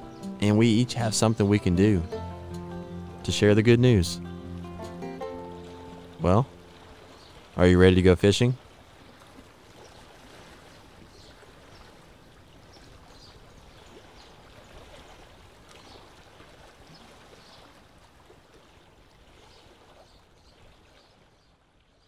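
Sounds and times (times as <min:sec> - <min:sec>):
running water: 0:00.0 - 0:21.3.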